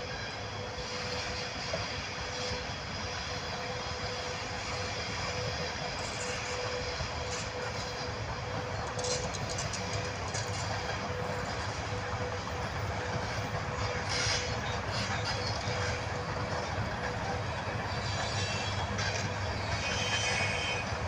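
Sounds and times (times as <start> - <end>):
locomotive steady hum: 0.0 - 21.0
train wheels rumbling on rails: 0.0 - 21.0.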